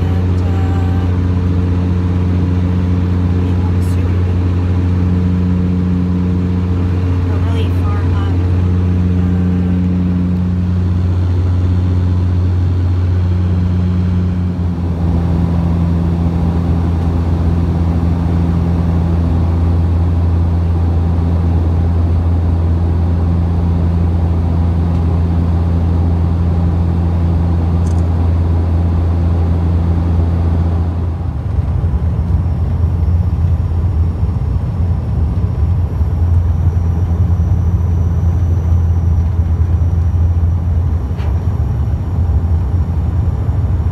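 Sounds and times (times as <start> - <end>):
vehicle interior drone: 0.0 - 43.9.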